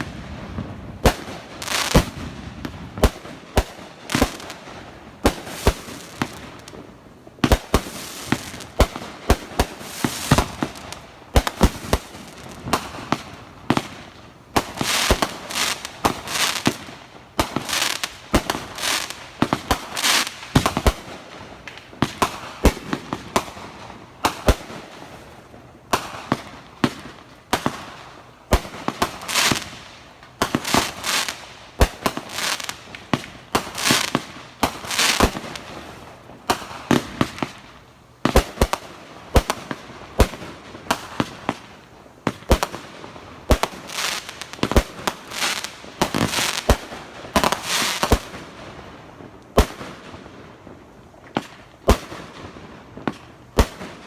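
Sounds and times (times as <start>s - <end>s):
fireworks bangs: 0.0s - 25.2s, 30.4s - 37.6s, 38.2s - 54.0s.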